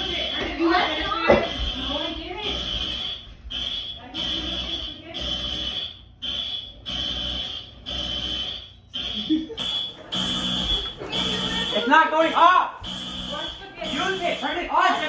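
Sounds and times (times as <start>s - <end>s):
smoke alarm beeping: 0.0s - 15.0s.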